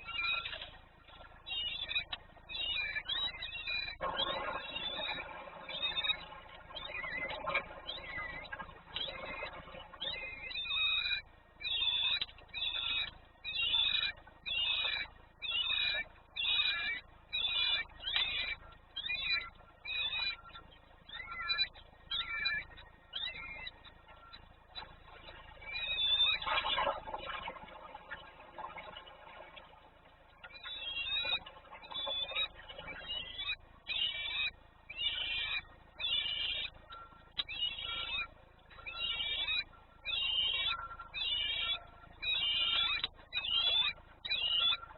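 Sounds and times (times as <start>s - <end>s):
bird calling: 0.0s - 44.9s.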